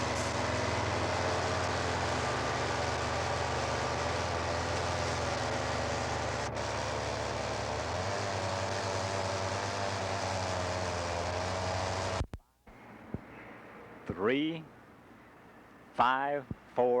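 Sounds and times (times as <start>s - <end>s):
vehicle engine drone: 0.0s - 16.8s.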